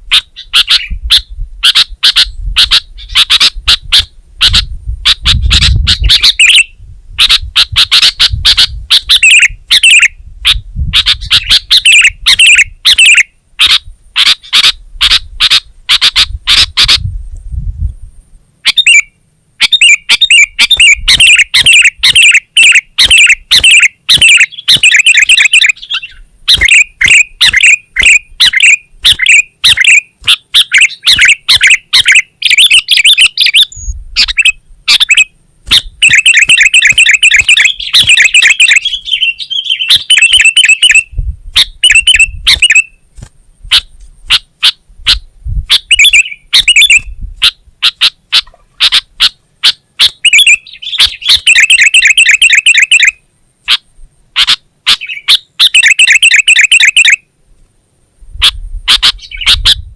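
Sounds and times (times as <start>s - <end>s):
bulbul singing and chattering: 0.1s - 17.0s, 18.6s - 43.0s, 45.1s - 47.2s, 47.8s - 53.2s, 54.4s - 57.2s.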